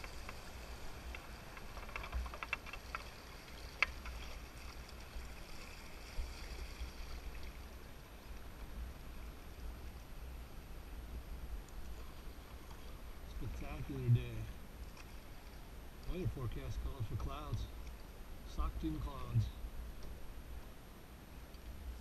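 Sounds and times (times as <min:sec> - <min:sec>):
water rushing and splashing: 0:00.0 - 0:19.7
low steady rumble: 0:00.0 - 0:22.0.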